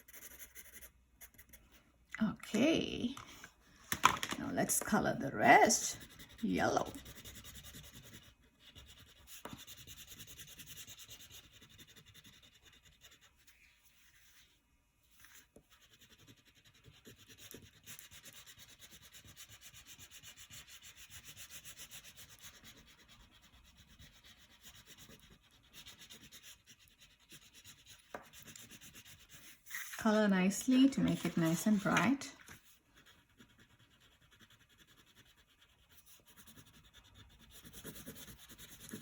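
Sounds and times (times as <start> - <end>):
crayon rubbing on paper: 0.0 - 1.6, 5.2 - 39.0.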